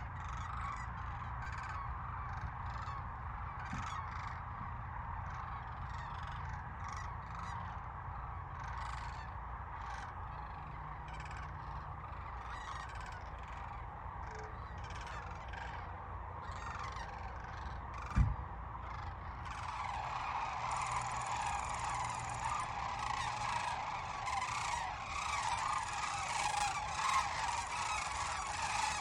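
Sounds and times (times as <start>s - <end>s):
flock of cranes calling: 0.0s - 29.0s.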